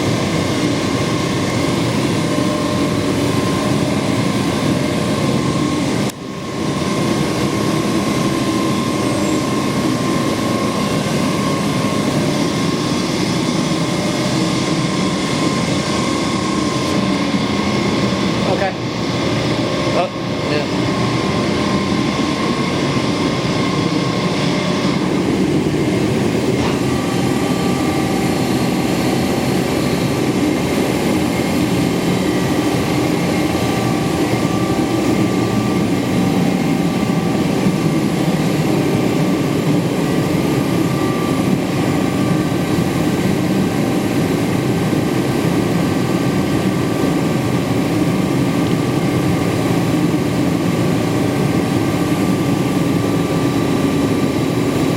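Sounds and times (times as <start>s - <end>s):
hydraulic pump humming: 0.0s - 49.9s.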